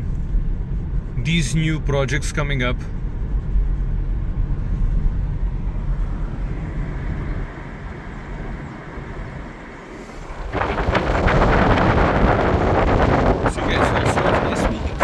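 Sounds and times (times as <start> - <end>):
car road and engine rumble: 0.0 - 15.0
wind buffeting microphone: 2.9 - 15.0.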